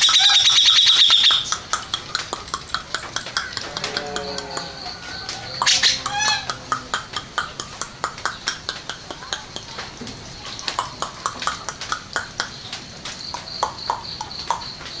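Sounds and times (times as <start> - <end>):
bird calling in sharp chips: 0.0 - 15.0.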